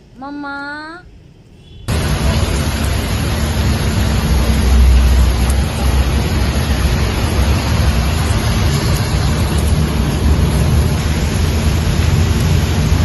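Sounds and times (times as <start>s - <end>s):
heavy rain falling: 1.9s - 13.0s
low rumble: 1.9s - 13.0s.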